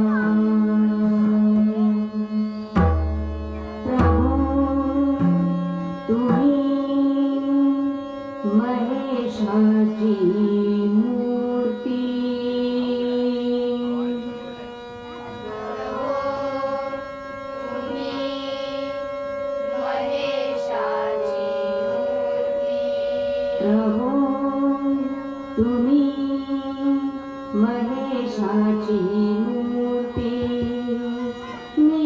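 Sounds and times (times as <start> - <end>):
sustained accompaniment: 0.0 - 32.0
woman singing long notes: 3.8 - 32.0.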